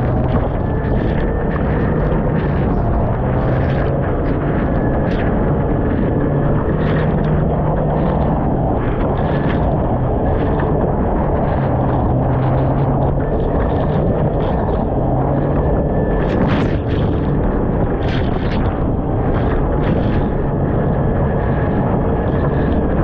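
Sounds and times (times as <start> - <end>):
outboard motor hum: 0.0 - 23.0
wind and water rushing: 0.0 - 23.0.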